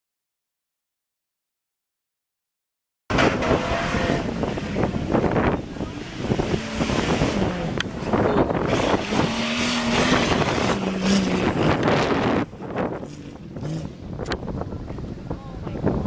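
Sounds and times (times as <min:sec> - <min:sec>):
race vehicle engines revving: 0:03.1 - 0:16.0
wind buffeting microphone: 0:03.1 - 0:16.0.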